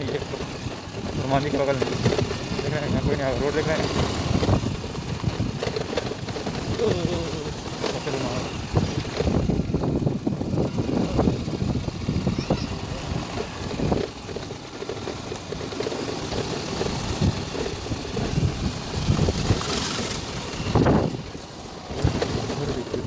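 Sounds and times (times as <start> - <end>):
vehicle engine running: 0.0 - 23.0
wind rumbling on microphone: 0.0 - 23.0.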